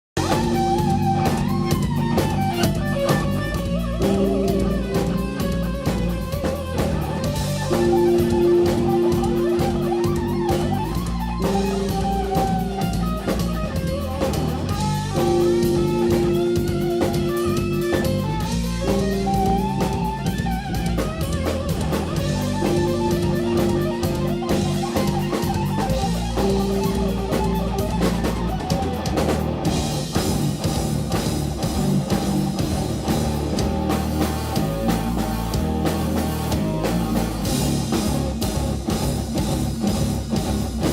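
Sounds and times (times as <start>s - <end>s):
rock band playing: 0.0s - 40.9s
drum kit: 0.1s - 40.9s
lead electric guitar melody: 0.2s - 40.9s.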